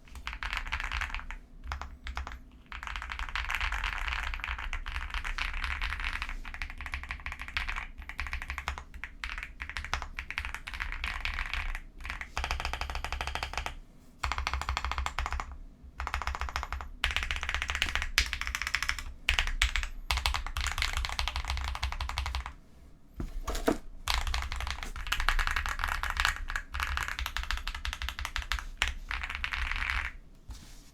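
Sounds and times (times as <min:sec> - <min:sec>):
mechanical keyboard typing: 0:00.2 - 0:22.6, 0:23.4 - 0:30.2.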